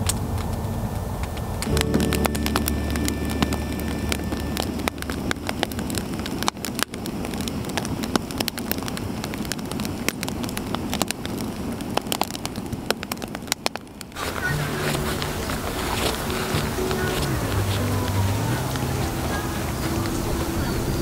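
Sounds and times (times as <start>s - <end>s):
rush of flames: 0.0s - 20.6s
campfire crackling and popping: 0.0s - 21.0s.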